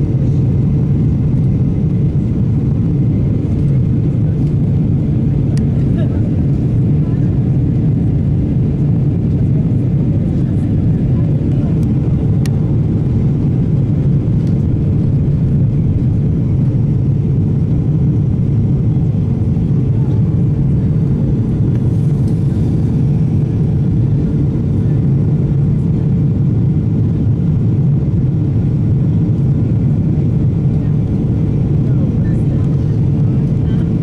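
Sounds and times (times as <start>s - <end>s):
jet cabin engine rumble: 0.0s - 34.0s.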